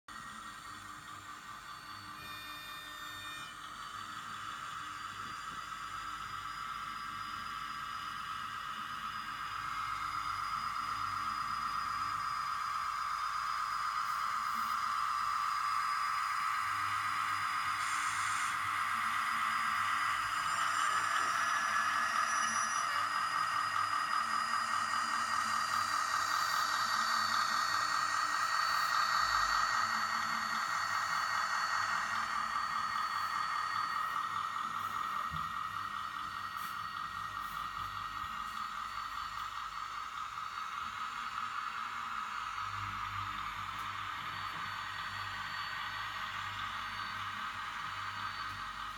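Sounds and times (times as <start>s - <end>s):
electric motor whine: 0.3s - 40.4s.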